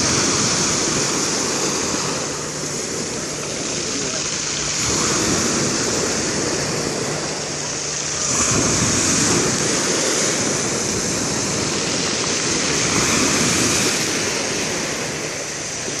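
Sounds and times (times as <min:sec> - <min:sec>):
sea surf washing onto shore: 0:00.0 - 0:16.0.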